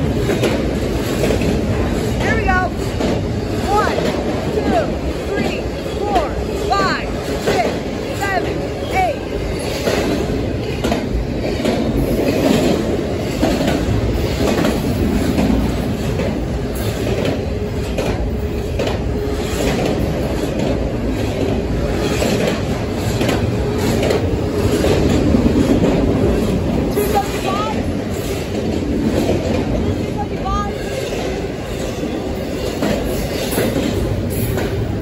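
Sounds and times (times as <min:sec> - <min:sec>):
freight train rolling past: 0:00.0 - 0:35.0
wheels clacking over rail joints: 0:00.0 - 0:35.0.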